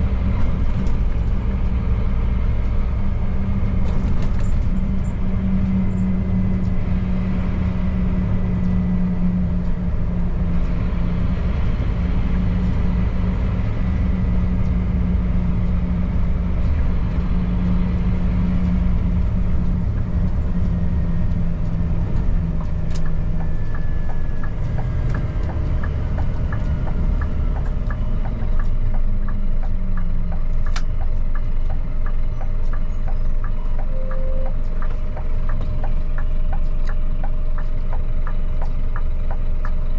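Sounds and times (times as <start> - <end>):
road noise: 0.0 - 39.9
truck diesel engine running: 0.0 - 39.9
regular ticking: 4.8 - 39.9.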